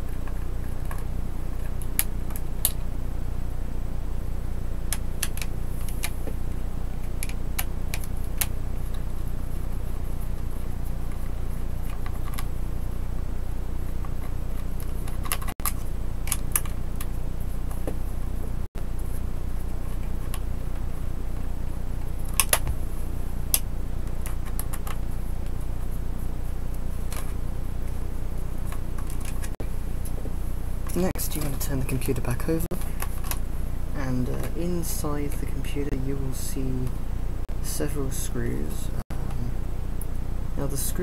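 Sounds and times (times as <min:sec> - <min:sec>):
low hum: 0:00.0 - 0:41.0.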